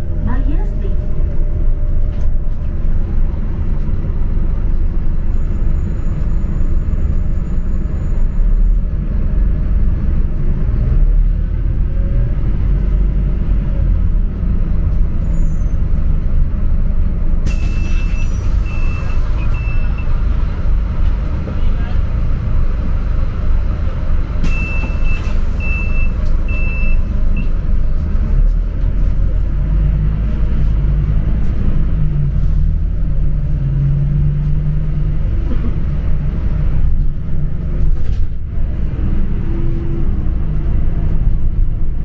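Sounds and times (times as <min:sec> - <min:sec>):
bus engine rumble: 0:00.0 - 0:42.0.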